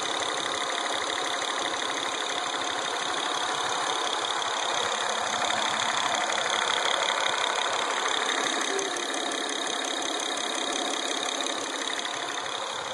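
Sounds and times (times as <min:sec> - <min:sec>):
car engine running with ticking: 0:00.0 - 0:12.9.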